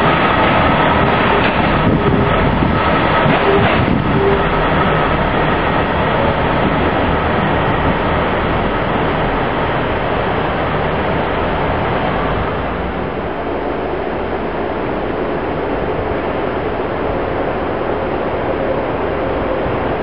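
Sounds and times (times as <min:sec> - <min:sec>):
train engine and wheel noise: 0:00.0 - 0:20.0.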